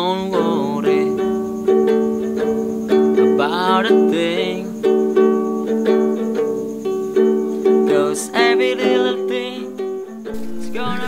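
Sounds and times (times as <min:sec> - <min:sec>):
strummed ukulele: 0:00.0 - 0:11.0.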